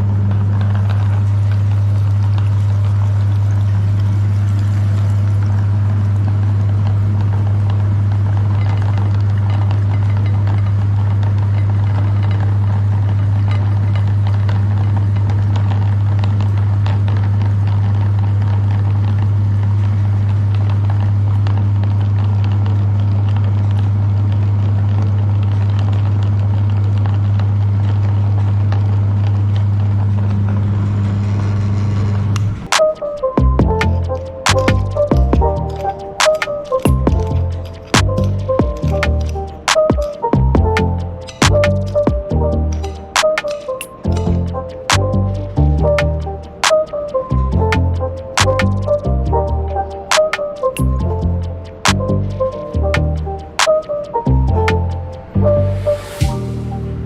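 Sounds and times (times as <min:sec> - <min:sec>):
faint clicks and crackles: 0:00.0 - 0:55.4.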